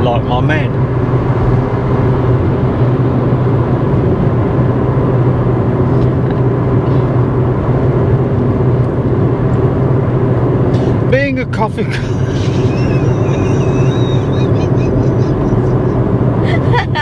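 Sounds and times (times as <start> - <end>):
road and engine noise inside vehicle: 0.0 - 17.0.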